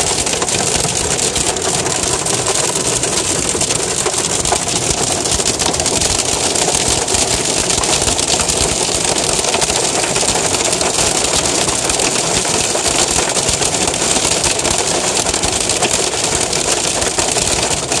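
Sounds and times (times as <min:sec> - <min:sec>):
hail and rain drumming on car: 0:00.0 - 0:18.0.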